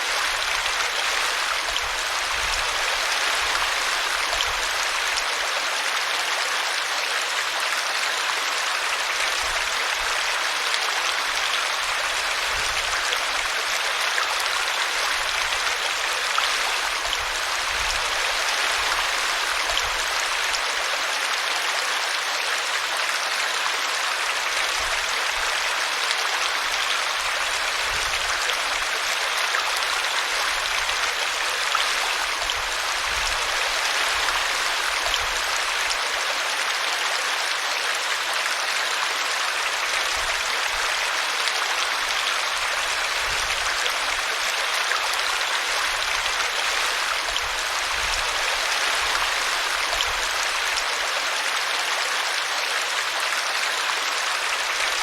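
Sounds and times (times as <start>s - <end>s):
small brook babbling: 0.0s - 55.0s.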